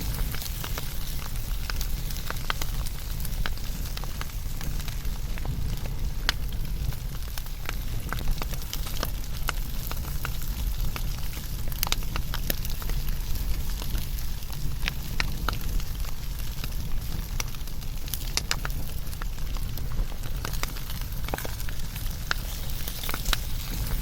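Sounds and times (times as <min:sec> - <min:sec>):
steady low rumble: 0:00.0 - 0:24.0
wood fire crackling and popping: 0:00.0 - 0:24.0.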